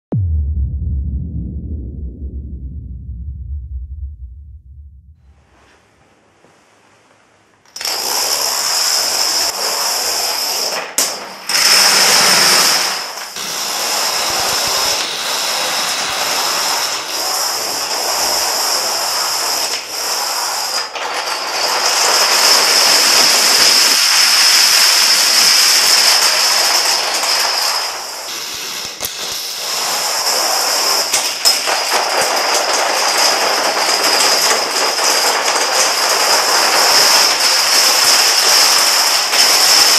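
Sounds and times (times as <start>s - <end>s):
plastic dominoes clattering: 7.7s - 39.9s.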